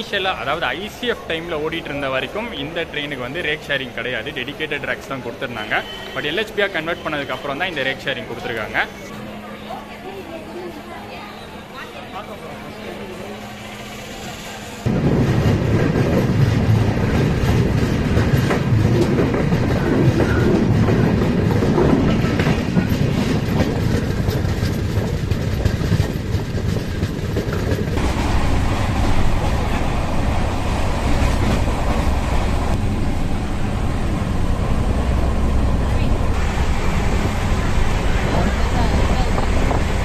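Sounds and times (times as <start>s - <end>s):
train coach running on rails: 0.0s - 40.0s.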